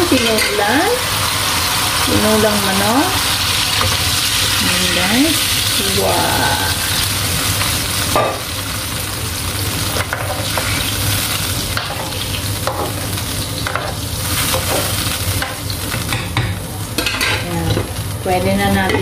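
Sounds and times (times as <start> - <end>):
hot pan hissing: 0.0 - 18.9.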